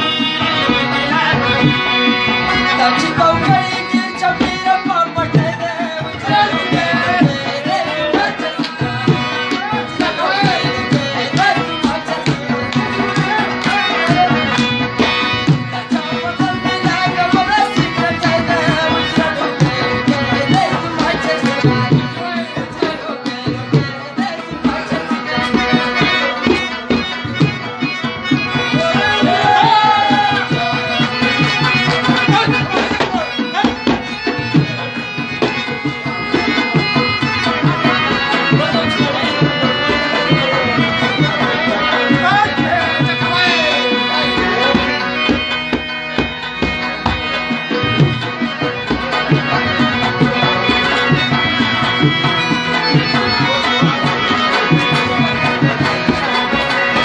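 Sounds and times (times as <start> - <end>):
fast hand drum rhythm: 0.0 - 57.0
harmonium melody: 0.0 - 57.0
rabab: 0.0 - 57.0.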